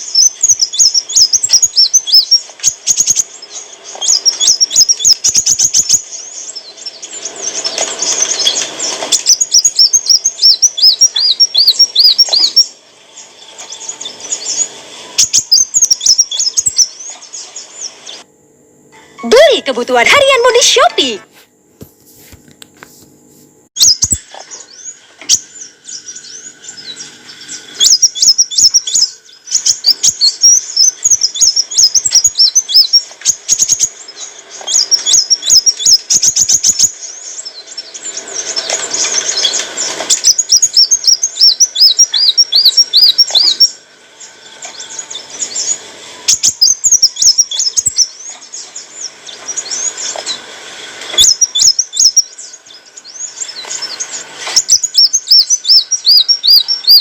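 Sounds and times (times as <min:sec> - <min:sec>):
sunbird singing: 0:00.0 - 0:18.3, 0:19.0 - 0:21.2, 0:23.8 - 0:57.0.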